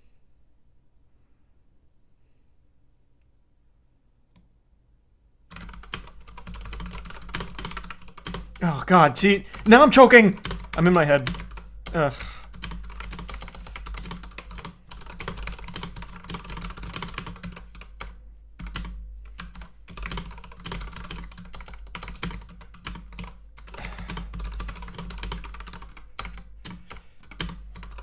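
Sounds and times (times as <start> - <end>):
rapid keyboard typing: 5.5 - 28.0.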